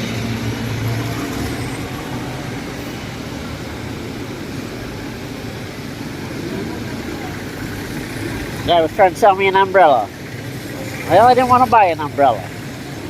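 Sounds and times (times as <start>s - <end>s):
steady road noise: 0.0s - 13.0s
vehicle engine running: 0.0s - 13.0s.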